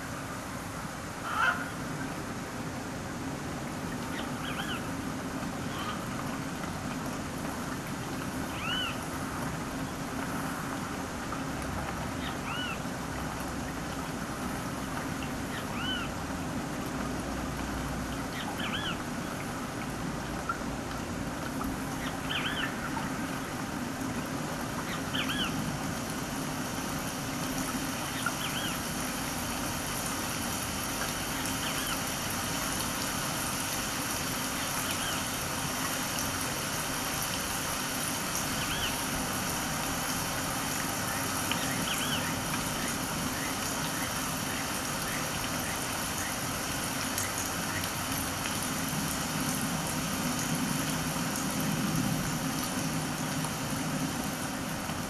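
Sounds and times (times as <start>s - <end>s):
ambient hum and hiss: 0.0s - 55.0s.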